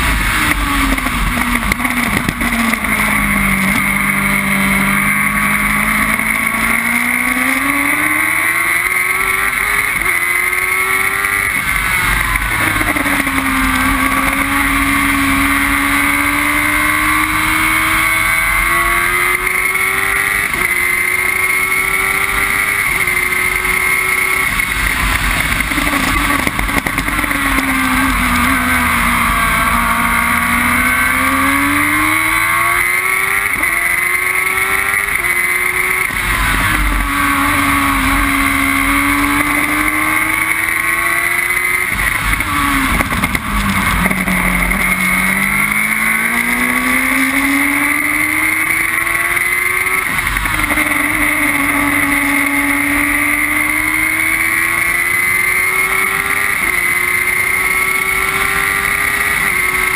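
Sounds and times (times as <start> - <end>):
racing car engine at full throttle: 0.0 - 59.9
wind and road noise: 0.0 - 59.9.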